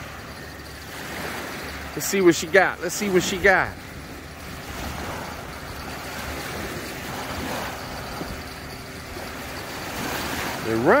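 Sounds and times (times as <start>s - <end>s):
small waves breaking on shore: 0.0s - 11.0s
wind rumbling on microphone: 0.0s - 11.0s.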